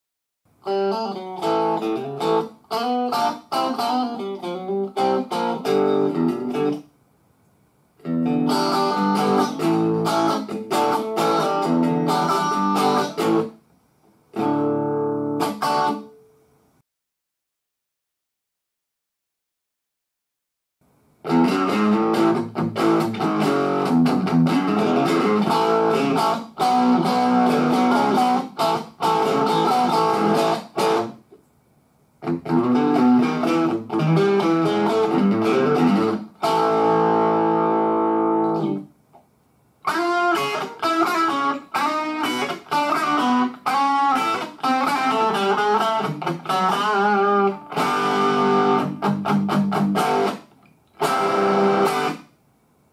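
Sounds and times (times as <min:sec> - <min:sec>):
distorted electric guitar: 0:00.6 - 0:06.8, 0:08.0 - 0:13.5, 0:14.4 - 0:16.2, 0:21.2 - 0:31.2, 0:32.2 - 0:38.9, 0:39.8 - 0:52.2.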